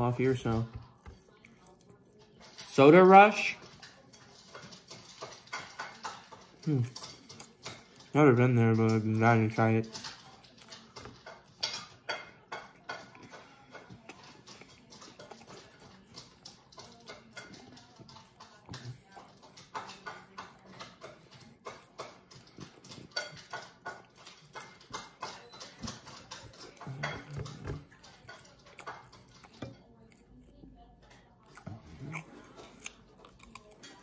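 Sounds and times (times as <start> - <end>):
chewing crispy chicken: 0.1 - 34.0.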